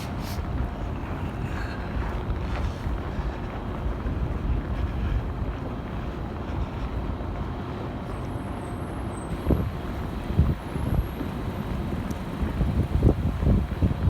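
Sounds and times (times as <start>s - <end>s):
wind buffeting microphone: 0.0s - 8.1s, 9.3s - 14.0s.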